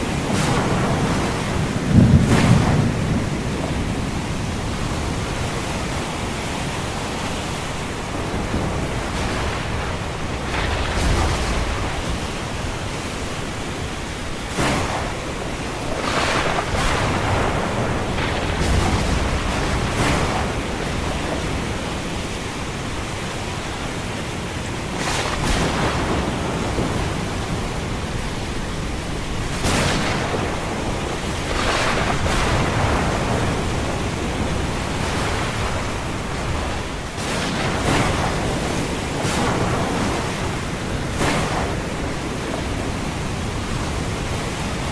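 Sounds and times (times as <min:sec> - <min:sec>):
ocean surf hissing: 0:00.0 - 0:44.9
waves breaking: 0:00.0 - 0:44.9.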